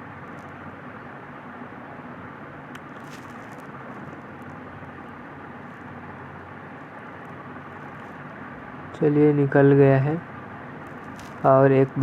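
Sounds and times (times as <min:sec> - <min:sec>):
background hiss and hum: 0:00.0 - 0:12.0.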